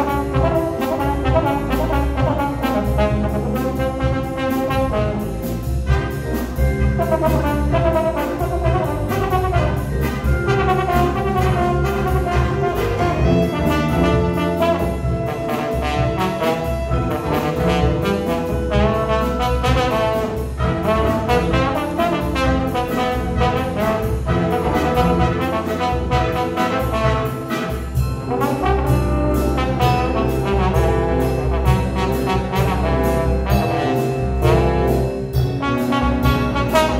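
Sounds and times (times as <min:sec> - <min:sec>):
drum kit beat: 0:00.0 - 0:36.9
jazz big band playing: 0:00.0 - 0:36.9.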